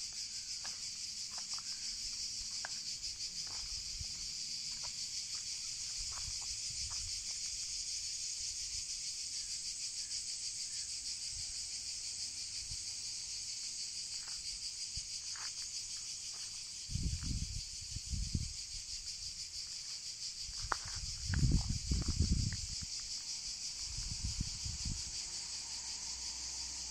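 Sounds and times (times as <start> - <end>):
insect chorus chirring: 0.0 - 26.9.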